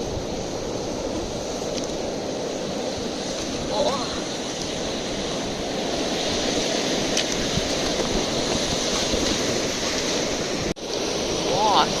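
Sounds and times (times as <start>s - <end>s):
waves washing in: 0.0s - 12.0s
wind buffeting microphone: 0.0s - 12.0s.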